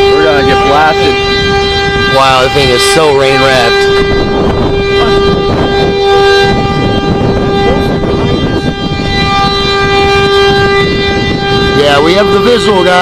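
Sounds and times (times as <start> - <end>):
tornado warning siren: 0.0 - 13.0
wind on microphone: 0.0 - 13.0.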